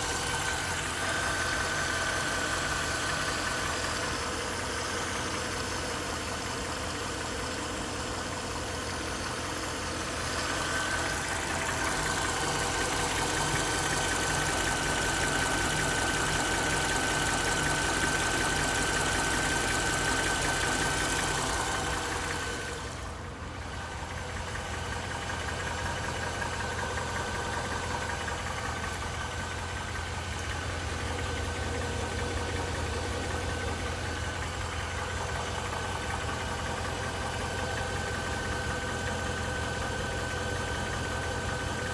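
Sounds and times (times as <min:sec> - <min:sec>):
car engine idling with knocking: 0:00.0 - 0:41.9.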